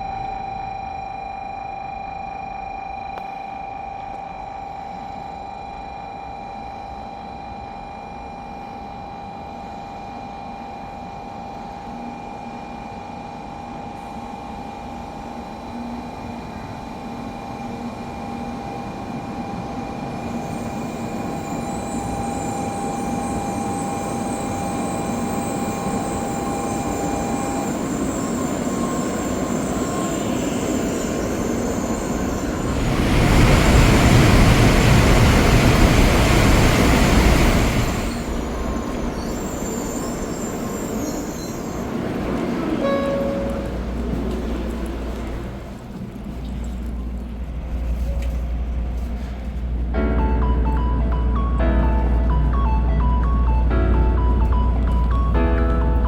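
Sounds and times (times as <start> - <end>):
train noise from inside: 0.0 - 56.0.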